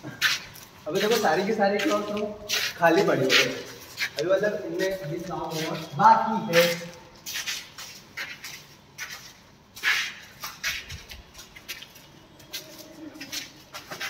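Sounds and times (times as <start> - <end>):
footsteps scuffing on concrete: 0.0 - 14.0.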